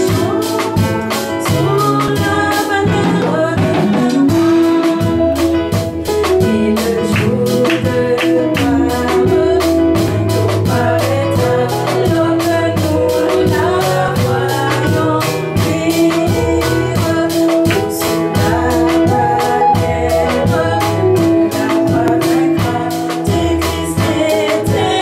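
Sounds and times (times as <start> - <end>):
band playing chords and bass: 0.0 - 25.0
drums: 0.0 - 25.0
woman singing a hymn: 0.0 - 25.0.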